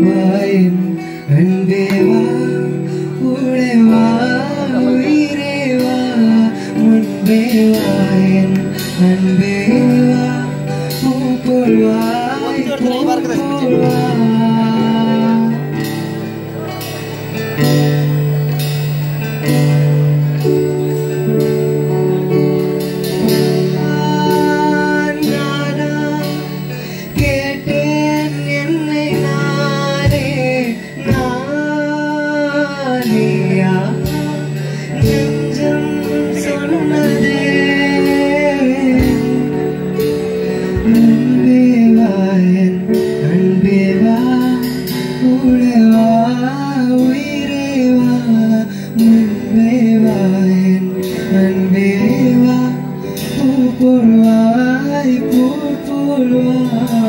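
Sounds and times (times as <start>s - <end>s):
man singing into microphone: 0.0s - 16.9s, 23.1s - 57.0s
electric bass: 0.0s - 57.0s
strummed acoustic guitar: 0.0s - 57.0s.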